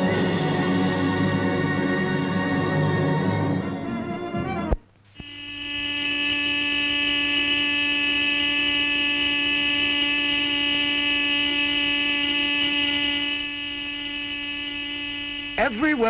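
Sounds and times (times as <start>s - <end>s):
electric factory hooter: 0.0s - 16.0s.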